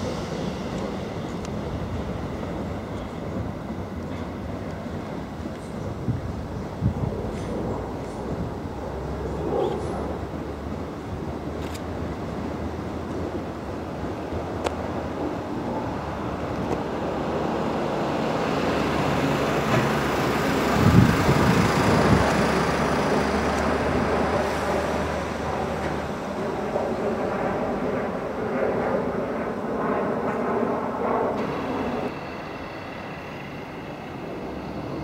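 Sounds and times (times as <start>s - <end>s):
train wheels rumbling on rails: 0.0s - 29.6s, 30.2s - 35.0s.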